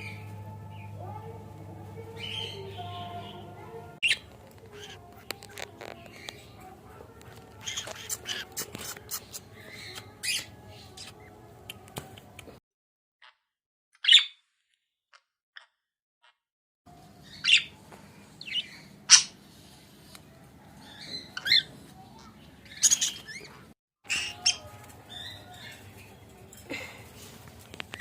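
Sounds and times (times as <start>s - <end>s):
parrots chirping and warbling: 0.0s - 12.6s, 14.0s - 14.4s, 17.0s - 17.8s, 18.4s - 28.0s.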